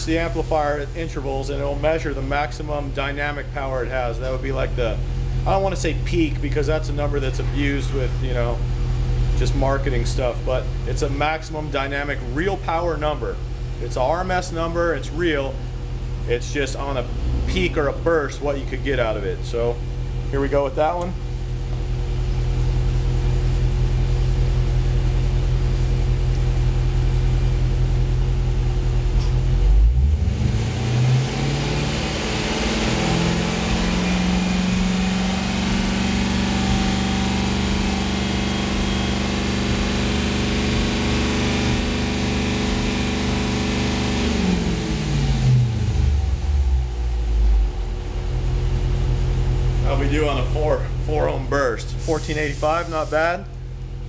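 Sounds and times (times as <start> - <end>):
car engine idling and revving: 0.0 - 52.4, 53.5 - 54.0.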